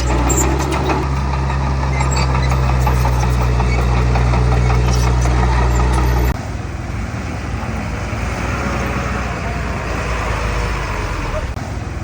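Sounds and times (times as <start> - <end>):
heavy diesel engine humming: 0.0 - 12.0
rough engine noise: 0.0 - 12.0.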